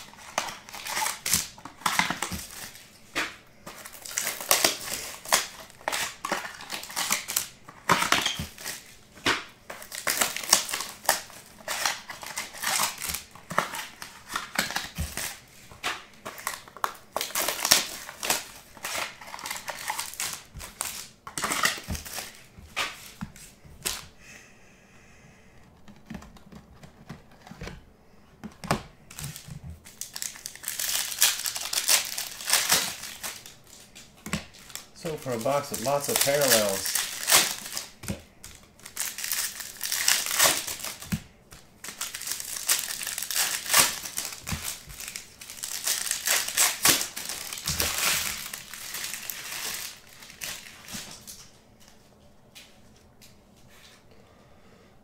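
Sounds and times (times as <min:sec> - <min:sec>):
plastic wrap crinkling: 0:00.0 - 0:03.0, 0:03.6 - 0:08.9, 0:09.7 - 0:24.0, 0:29.1 - 0:51.6.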